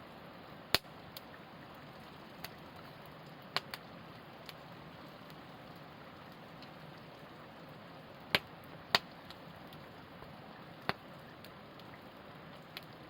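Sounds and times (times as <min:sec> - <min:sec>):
campfire crackling: 0:00.0 - 0:13.0
low hiss of fire: 0:00.0 - 0:13.0
fire popping: 0:00.6 - 0:13.0.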